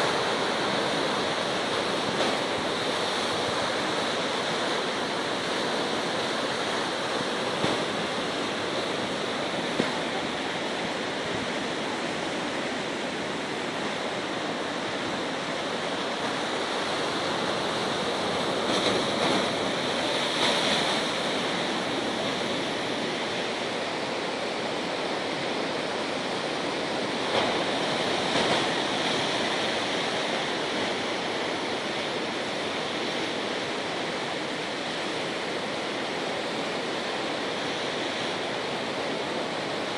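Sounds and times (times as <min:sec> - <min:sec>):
sea surf washing: 0:00.0 - 0:39.9.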